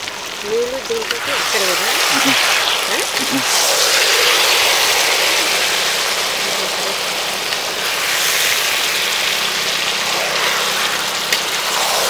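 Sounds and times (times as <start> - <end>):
meat and onions sizzling in oil: 0.0 - 12.0.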